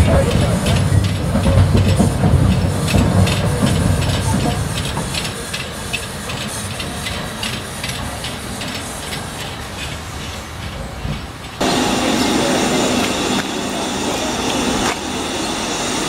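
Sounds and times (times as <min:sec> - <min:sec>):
train rumble: 0:00.0 - 0:16.0
train wheels clattering rhythmically: 0:00.0 - 0:16.0.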